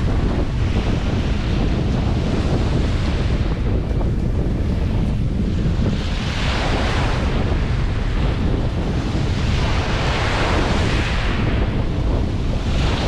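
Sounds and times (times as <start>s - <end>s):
waves on pebble beach: 0.0s - 13.0s
wind rumble on microphone: 0.0s - 13.0s.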